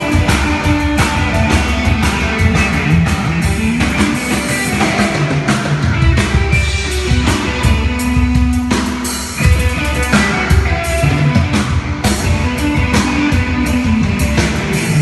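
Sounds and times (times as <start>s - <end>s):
drum kit rock groove: 0.0s - 15.0s
guitar music: 0.0s - 15.0s.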